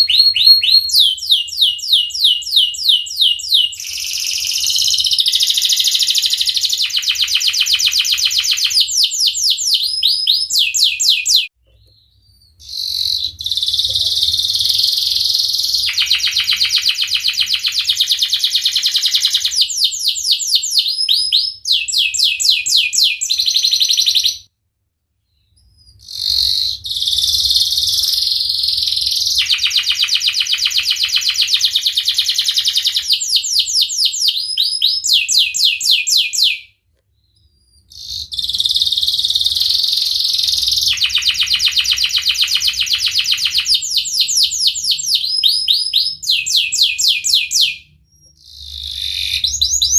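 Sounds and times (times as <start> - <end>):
canary singing trills: 0.0 - 24.5, 25.3 - 49.9.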